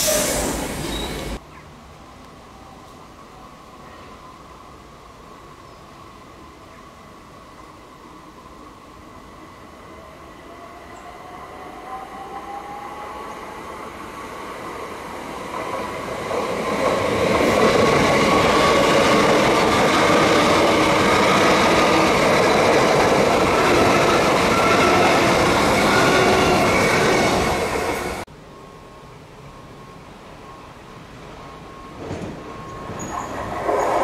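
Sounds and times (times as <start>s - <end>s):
electric train running past: 2.4s - 34.0s.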